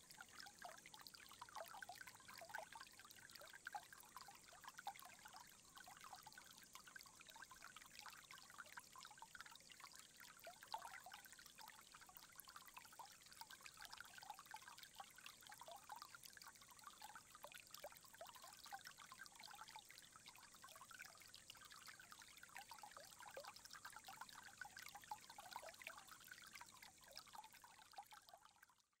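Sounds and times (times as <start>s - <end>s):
water trickling into stone basin: 0.0s - 29.0s.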